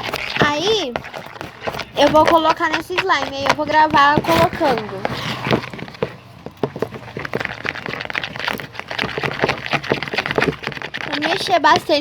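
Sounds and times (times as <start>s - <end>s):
small clicks and taps of containers: 0.0s - 12.0s.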